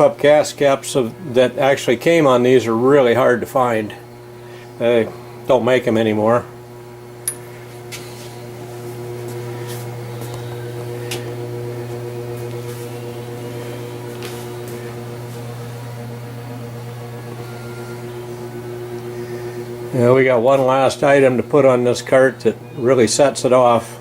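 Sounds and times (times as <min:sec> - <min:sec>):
mechanical hum: 0:00.0 - 0:24.0.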